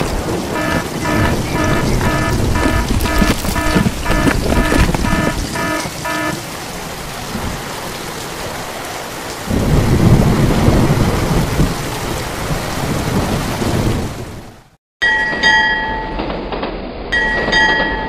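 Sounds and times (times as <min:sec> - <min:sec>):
thunder rumbling: 0:00.0 - 0:14.7
heavy rain: 0:00.0 - 0:14.8.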